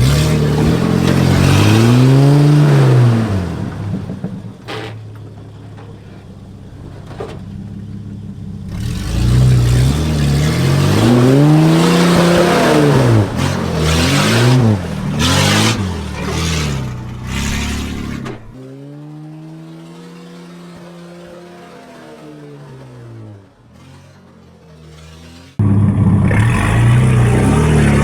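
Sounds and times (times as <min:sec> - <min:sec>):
engine revving without exhaust: 0:00.0 - 0:04.6, 0:08.3 - 0:28.0.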